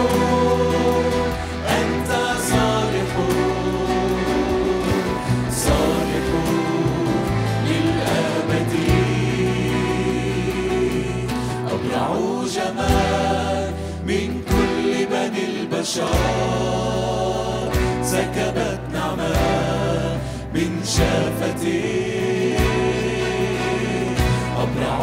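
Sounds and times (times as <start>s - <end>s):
choir singing a hymn: 0.0s - 25.0s
keyboard: 0.0s - 25.0s.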